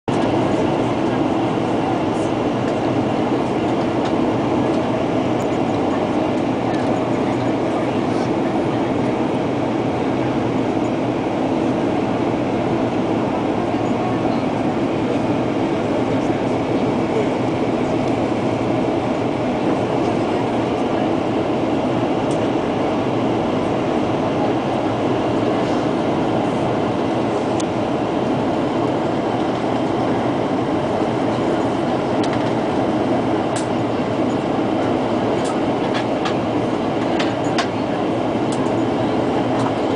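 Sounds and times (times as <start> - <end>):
jet engines droning: 0.1 - 39.9
rushing air in cabin: 0.1 - 39.9.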